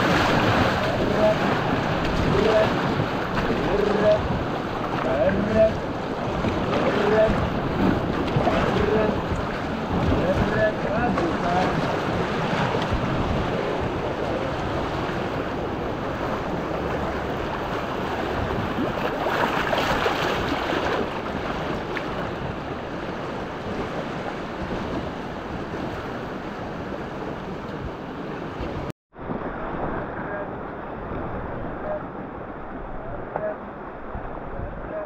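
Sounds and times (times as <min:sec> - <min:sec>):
whitewater river roaring: 0:00.0 - 0:35.0
wind buffeting microphone: 0:00.0 - 0:35.0.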